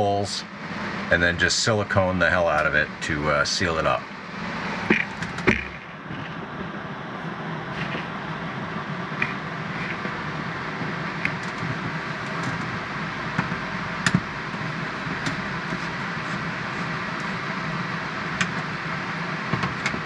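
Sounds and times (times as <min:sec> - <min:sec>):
steady rushing hum: 0:00.0 - 0:20.0.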